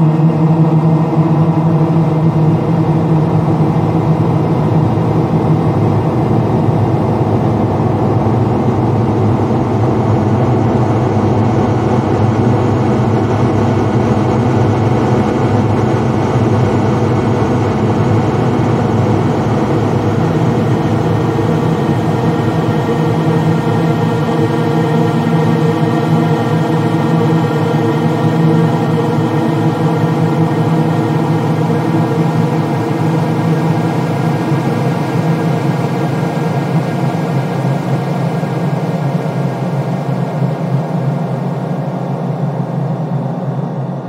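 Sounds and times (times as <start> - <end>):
eerie low drone: 0.0 - 44.0.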